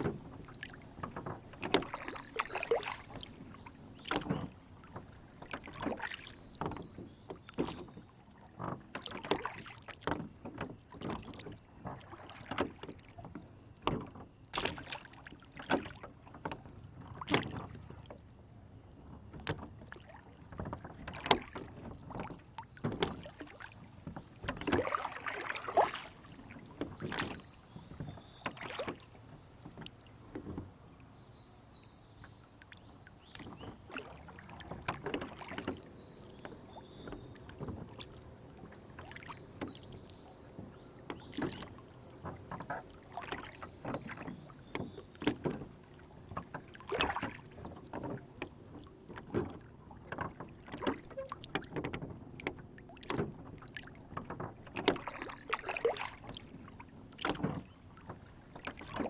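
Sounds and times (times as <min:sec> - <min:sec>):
water lapping against boat hull: 0:00.0 - 0:59.0.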